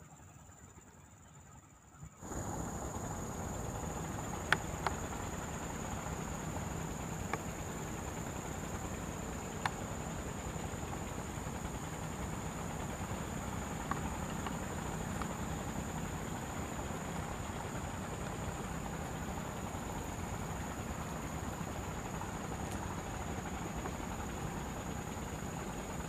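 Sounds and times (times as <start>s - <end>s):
insect chirring: 2.2s - 26.0s.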